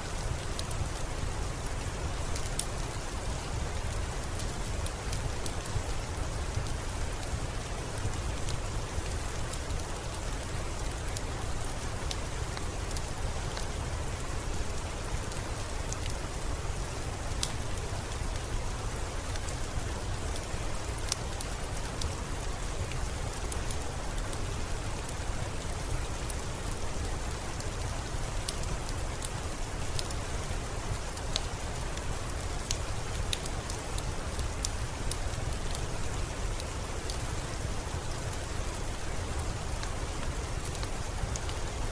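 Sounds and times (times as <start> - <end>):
steady rainfall: 0.0 - 41.9.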